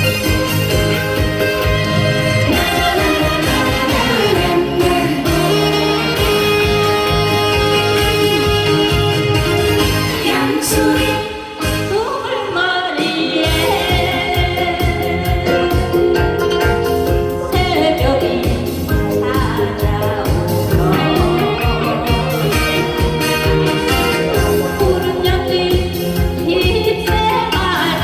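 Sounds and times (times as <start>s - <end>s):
pop song with singer and band: 0.0s - 28.0s.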